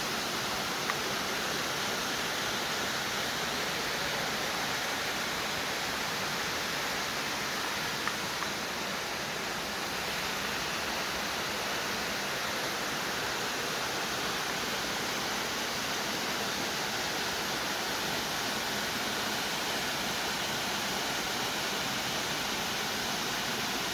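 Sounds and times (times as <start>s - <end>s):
waterfall rushing: 0.0s - 23.9s.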